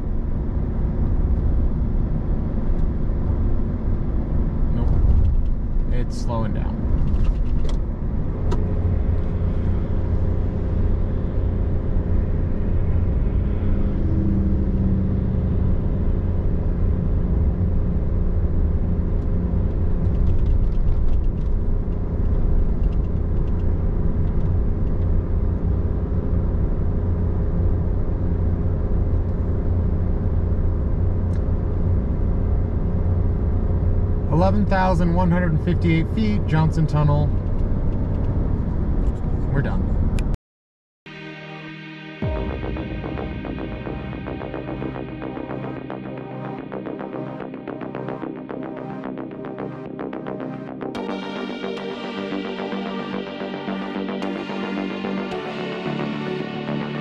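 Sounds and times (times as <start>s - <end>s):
truck engine droning: 0.0s - 40.2s, 41.1s - 57.0s
road noise: 0.0s - 40.4s, 41.1s - 57.0s.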